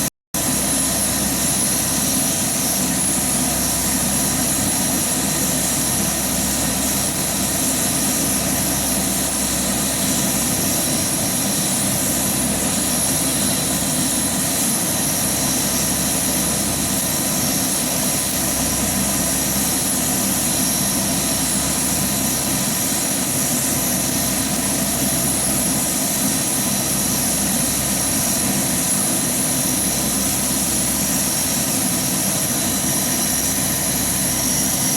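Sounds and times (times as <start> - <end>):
propeller drone: 0.0 - 34.9
turbine whine: 0.0 - 34.9.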